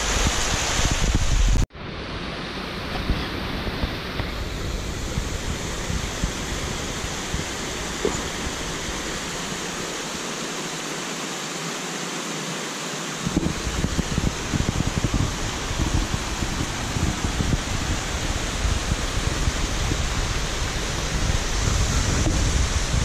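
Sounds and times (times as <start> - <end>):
stream cascading over rocks: 0.0 - 23.0
waterfall rushing: 0.0 - 23.0.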